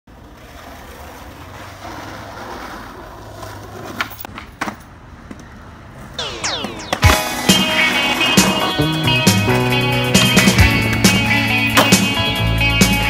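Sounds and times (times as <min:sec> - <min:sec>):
skateboard wheels rolling on pavement: 0:00.1 - 0:06.2, 0:06.8 - 0:13.0
skateboard clacks: 0:00.1 - 0:13.0.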